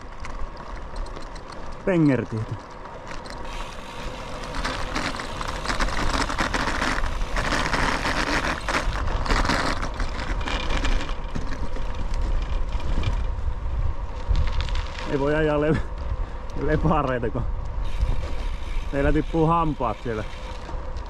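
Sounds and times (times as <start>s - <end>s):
bicycle tyres rolling on road: 0.0s - 21.0s
wind rumbling on microphone: 0.0s - 21.0s.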